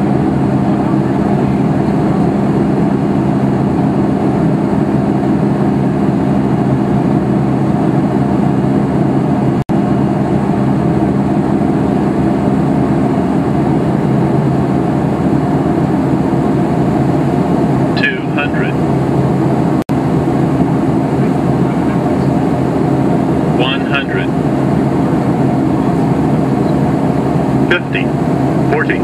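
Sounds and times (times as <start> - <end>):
aircraft engines droning: 0.0 - 29.0
airflow noise: 0.0 - 29.0.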